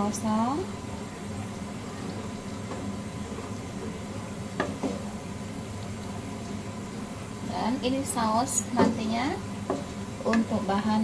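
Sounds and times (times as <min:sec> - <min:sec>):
sauce simmering in a wok: 0:00.1 - 0:11.0.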